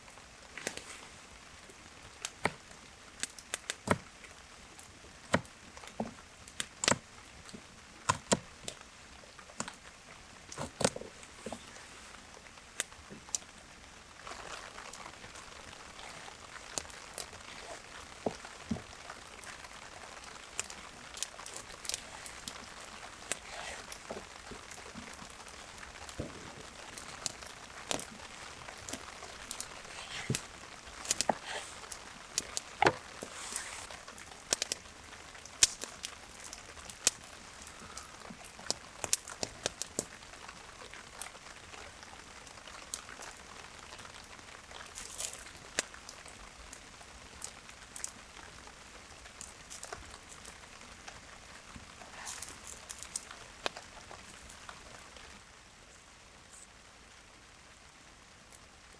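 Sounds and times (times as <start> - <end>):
faint hiss of rainfall: 0.0 - 58.9
rain drops pattering: 0.0 - 58.9.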